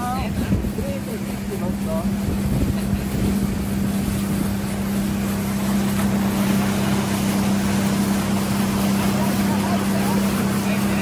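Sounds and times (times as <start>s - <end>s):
motorboat engine drone: 0.0s - 11.0s
water rushing: 0.0s - 11.0s
wind: 0.0s - 11.0s.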